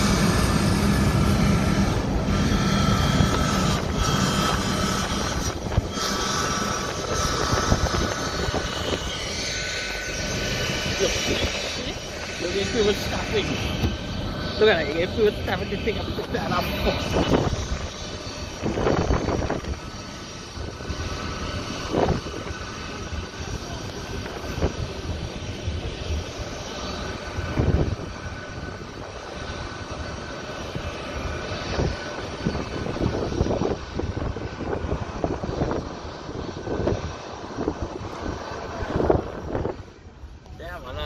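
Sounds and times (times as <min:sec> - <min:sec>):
jet turbines whining at idle: 0:00.0 - 0:41.0
rushing noise: 0:00.0 - 0:41.0.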